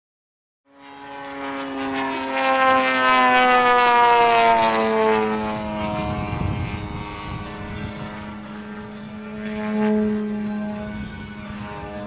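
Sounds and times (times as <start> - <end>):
model plane engine droning: 0.7 - 12.0.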